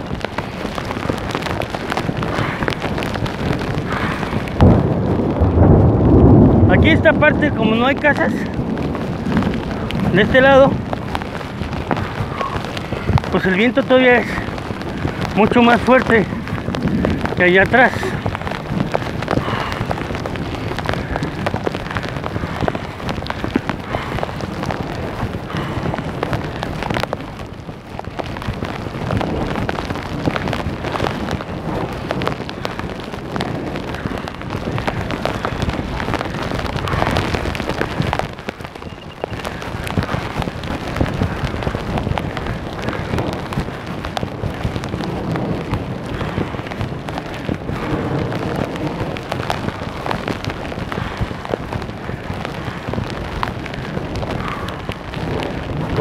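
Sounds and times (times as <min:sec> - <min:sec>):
heavy rain spattering: 0:00.0 - 0:56.0
strong gusting wind: 0:00.0 - 0:56.0.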